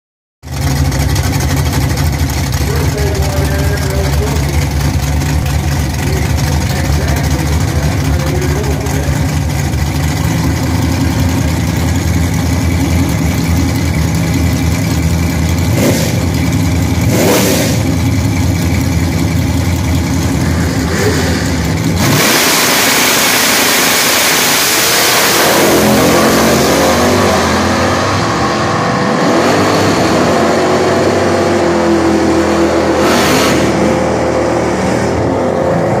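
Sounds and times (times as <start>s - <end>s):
drag car engine revving: 0.4s - 36.0s.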